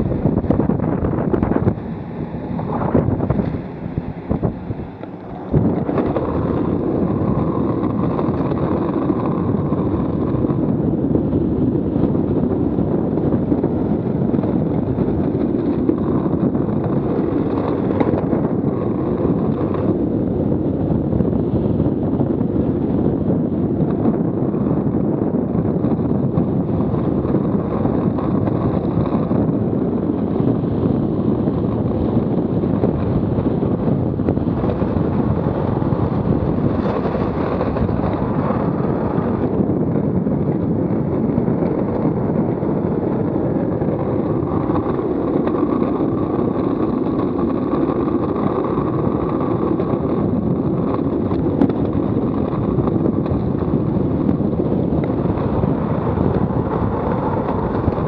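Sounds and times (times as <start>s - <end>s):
wheels rolling on asphalt: 0.0s - 58.0s
wind buffeting microphone: 0.0s - 58.0s.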